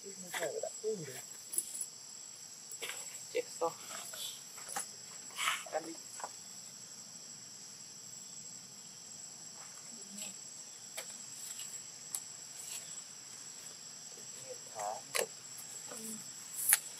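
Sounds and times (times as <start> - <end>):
insect chorus: 0.0 - 16.9.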